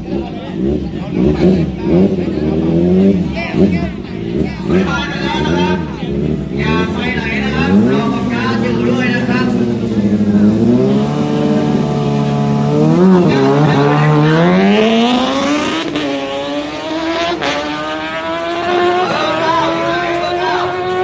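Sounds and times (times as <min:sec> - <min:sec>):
racing motorcycle engine accelerating: 0:00.0 - 0:21.0.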